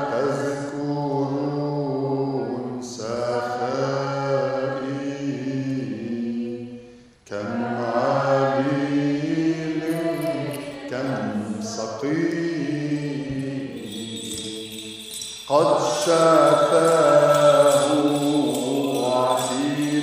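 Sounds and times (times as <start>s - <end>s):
man chanting a hymn: 0.0s - 20.0s.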